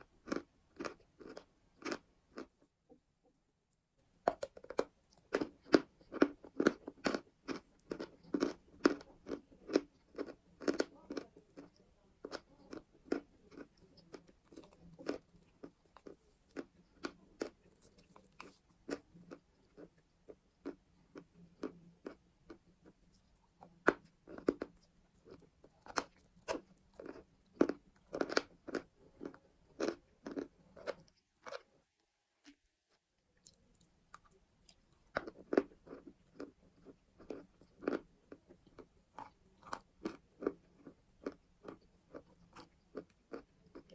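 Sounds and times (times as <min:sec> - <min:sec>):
chewing crunchy chalk: 0:04.3 - 0:31.7, 0:33.4 - 0:43.9.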